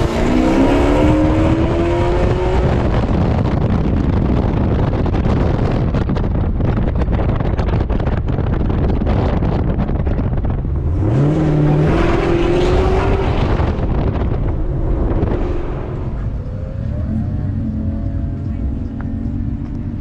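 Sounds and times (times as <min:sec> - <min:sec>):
car engine accelerating: 0:00.0 - 0:20.0
road and wind noise: 0:00.0 - 0:20.0.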